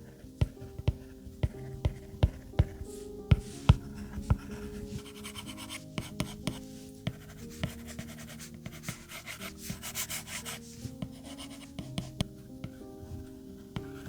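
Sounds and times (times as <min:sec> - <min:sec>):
calm background music: 0:00.0 - 0:14.0
rubbing and scratching: 0:00.0 - 0:14.0.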